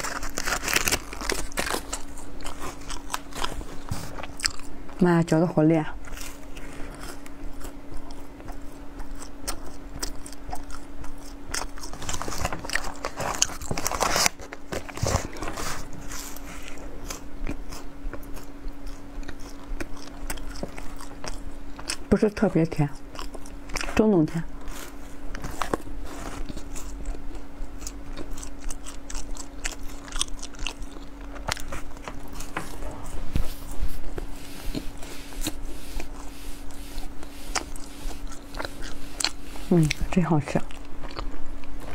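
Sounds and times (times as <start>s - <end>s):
mouth chewing crunchy bar: 0.0s - 5.0s, 6.0s - 41.9s
faint steady hum: 0.0s - 41.9s.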